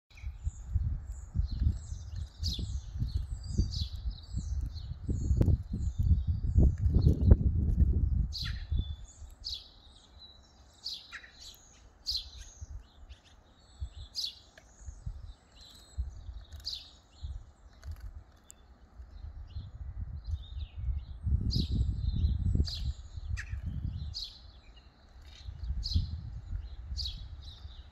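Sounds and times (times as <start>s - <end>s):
songbird chirping: 0.1s - 27.9s.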